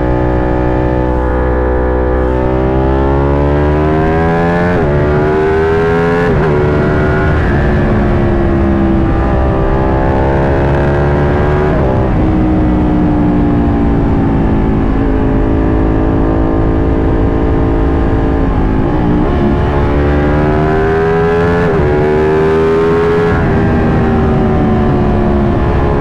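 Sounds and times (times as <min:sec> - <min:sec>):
motorcycle engine at speed: 0:00.0 - 0:26.0.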